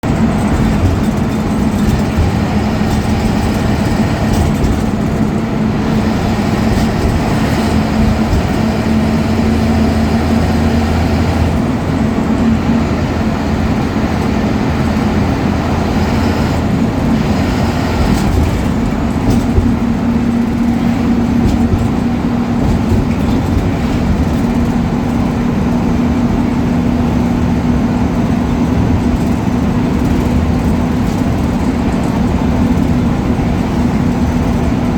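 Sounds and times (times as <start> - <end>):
bus diesel engine running: 0.0 - 34.9.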